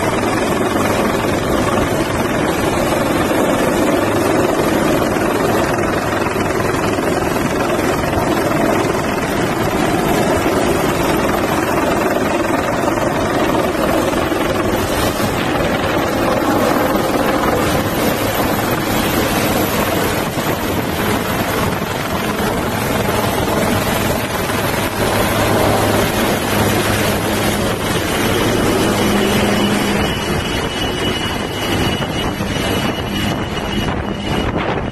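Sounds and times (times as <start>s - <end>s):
helicopter rotor and turbine noise: 0.0s - 34.9s.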